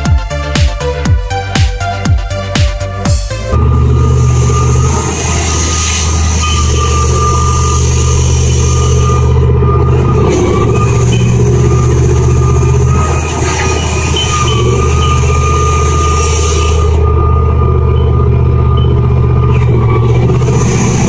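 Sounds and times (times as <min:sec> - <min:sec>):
diesel engines droning: 0:00.0 - 0:21.0
high whine: 0:00.0 - 0:21.0.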